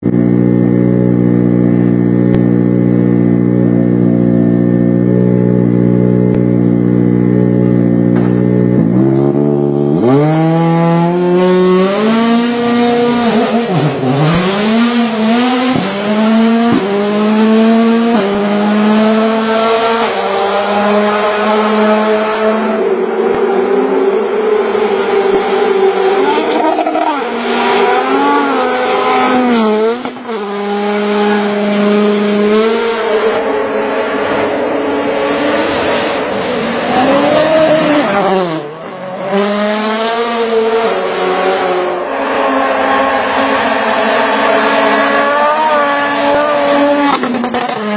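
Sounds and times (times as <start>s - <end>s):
rally car engine accelerating: 0.0s - 47.9s.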